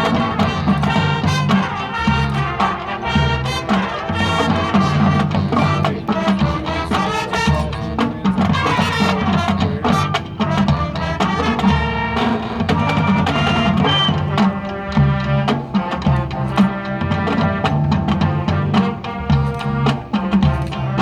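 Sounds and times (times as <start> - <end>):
brass chords: 0.0 - 21.0
marching drum percussion: 0.0 - 21.0.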